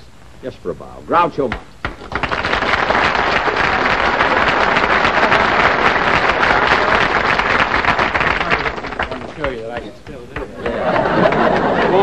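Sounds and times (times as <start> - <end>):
audience applauding: 2.0 - 12.0.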